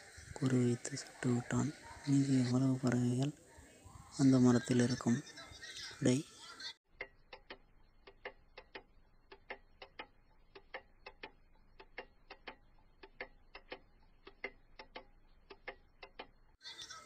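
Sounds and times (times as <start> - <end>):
faint clock-like ticking: 0.0 - 17.0.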